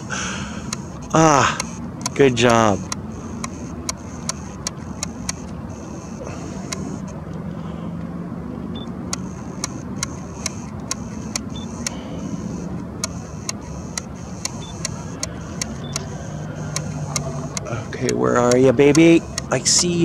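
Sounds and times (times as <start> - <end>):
sharp ticks: 0.0 - 7.2, 8.8 - 20.0
distant road traffic rumble: 0.0 - 20.0.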